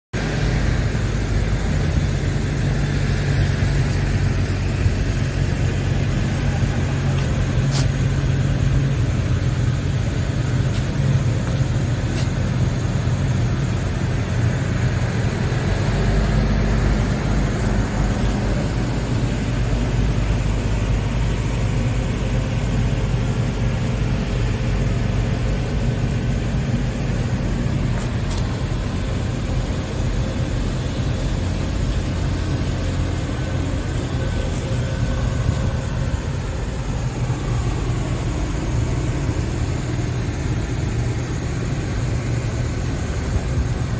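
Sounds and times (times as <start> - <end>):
truck diesel engine idling: 0.2 - 43.9.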